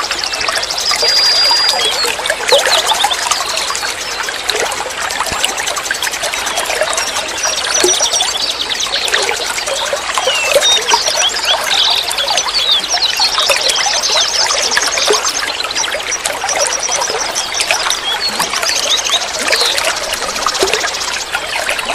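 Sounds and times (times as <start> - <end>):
small birds chirping: 0.0 - 4.5, 5.2 - 21.9
water trickling: 0.0 - 21.9.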